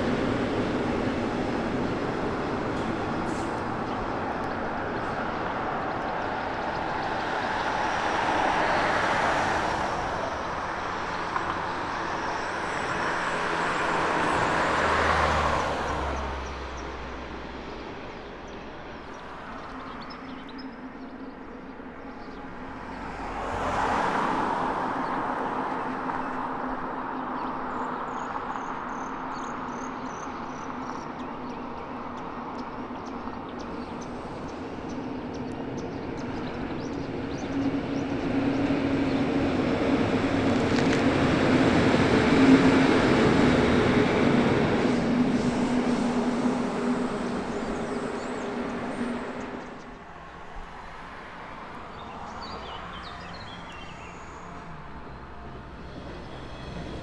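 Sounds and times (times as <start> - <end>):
road traffic: 0.0 - 57.0
trains rumbling across bridge: 0.0 - 57.0.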